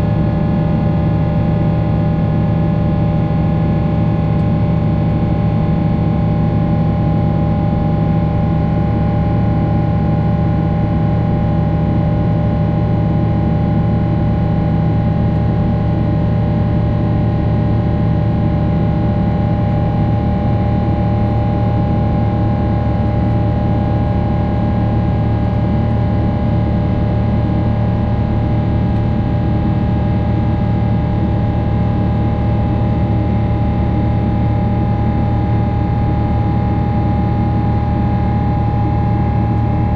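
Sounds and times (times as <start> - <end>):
constant engine whine: 0.0 - 39.9
jet engine rumble in cabin: 0.0 - 39.9.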